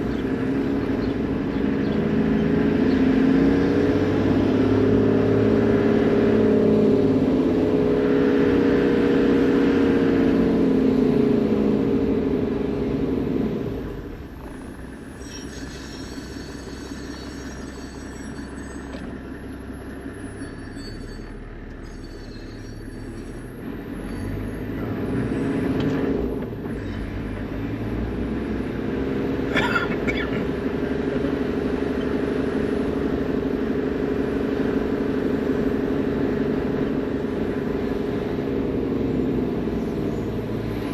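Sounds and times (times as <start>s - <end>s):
diesel vehicle driving: 0.0s - 40.9s.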